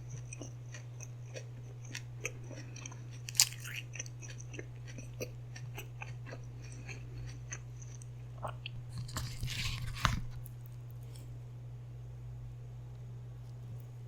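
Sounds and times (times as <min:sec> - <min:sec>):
chewing with small crunches: 0:00.0 - 0:11.3
steady low hum: 0:00.0 - 0:14.0.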